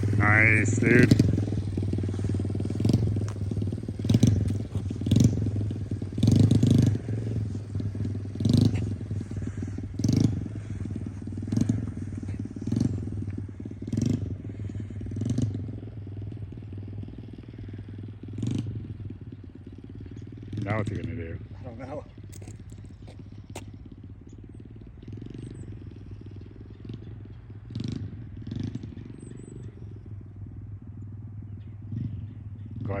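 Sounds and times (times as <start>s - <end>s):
motorcycle engine at low speed: 0.0s - 33.0s.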